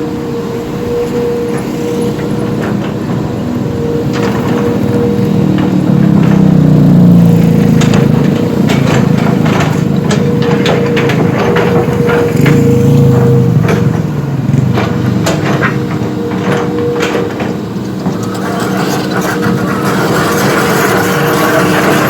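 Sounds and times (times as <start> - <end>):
diesel engine drone with whine: 0.0 - 22.0
sharp knocks and clatter: 4.1 - 22.0.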